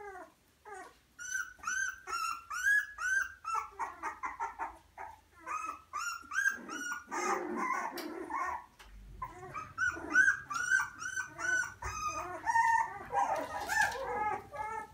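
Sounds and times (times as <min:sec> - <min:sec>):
puppies making high-pitched calls: 0:00.0 - 0:14.9.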